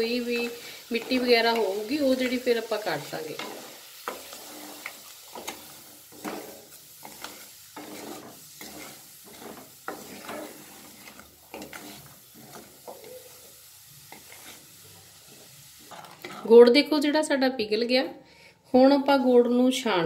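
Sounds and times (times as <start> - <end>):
steady sizzle: 0.0 - 16.7
spatula scraping a pan: 0.2 - 16.6.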